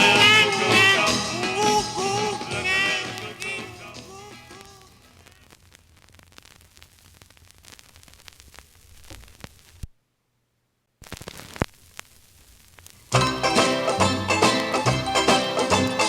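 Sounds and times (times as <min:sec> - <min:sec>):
record crackles and pops: 0:00.0 - 0:16.0
record surface hiss: 0:00.0 - 0:16.0.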